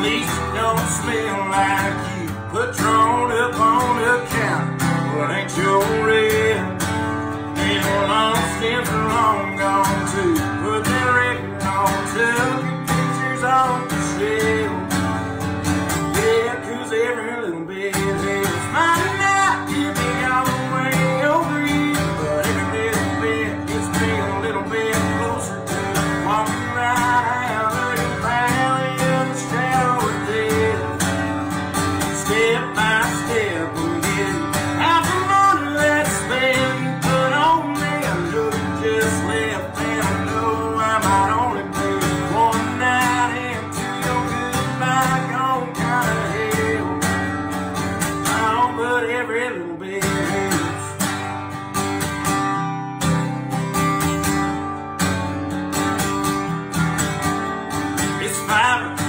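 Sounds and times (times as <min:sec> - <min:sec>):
country band instrumental: 0:00.0 - 0:59.0
guitar strumming: 0:00.0 - 0:59.0.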